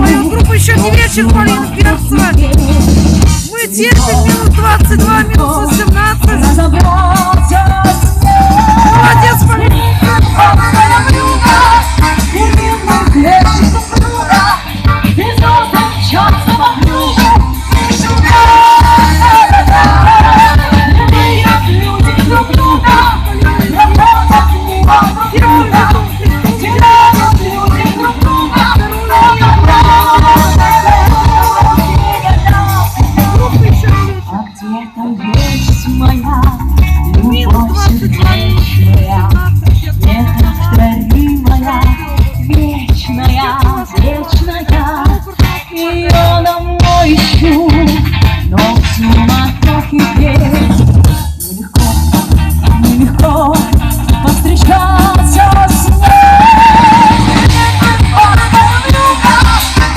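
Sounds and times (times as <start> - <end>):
heavy bass beat: 0.0 - 34.2, 35.5 - 59.9
amplified band music: 0.0 - 59.9
person singing: 0.0 - 59.9.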